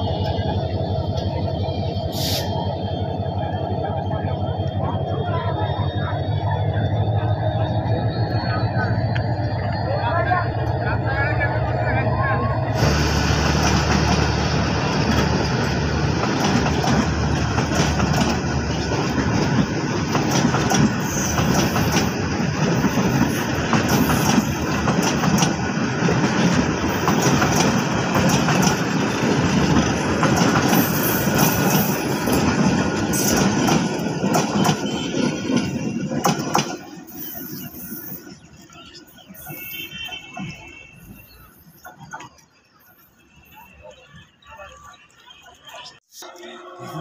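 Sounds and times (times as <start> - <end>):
train wheels rumbling on rails: 0.0 - 42.6.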